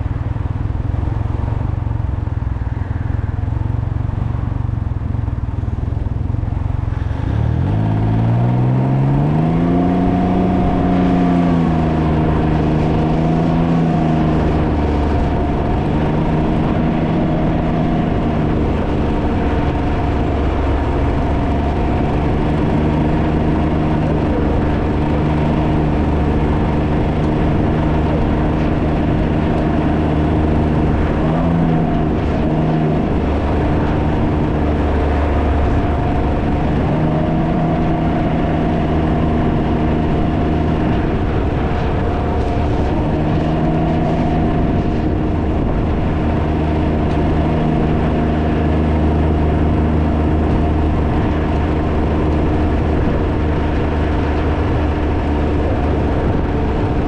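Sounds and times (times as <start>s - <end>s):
wind buffeting microphone: 6.0s - 57.0s
engine revving: 6.9s - 57.0s.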